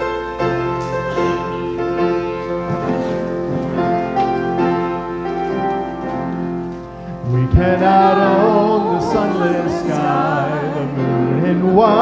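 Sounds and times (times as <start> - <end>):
keyboard playing held chords: 0.0 - 12.0.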